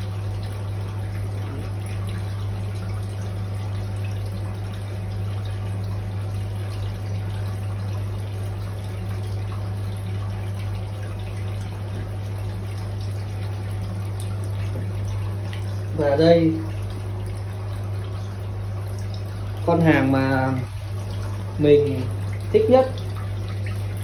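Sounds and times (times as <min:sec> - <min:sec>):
filter pump humming: 0:00.0 - 0:24.0
water trickling and splashing: 0:00.0 - 0:24.0.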